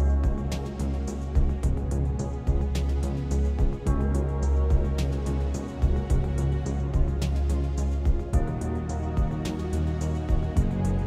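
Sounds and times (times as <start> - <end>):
instrumental synth and strings music: 0.0 - 11.0.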